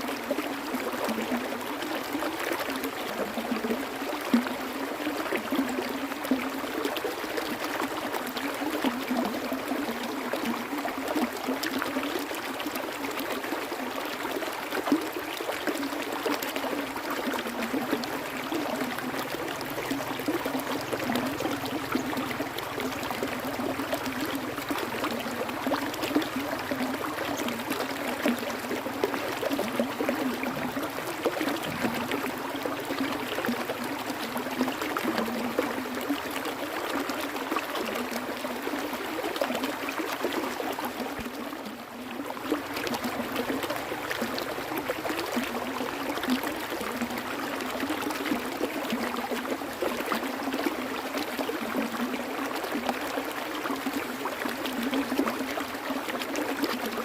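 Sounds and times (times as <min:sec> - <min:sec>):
water running over rocks: 0:00.0 - 0:57.0.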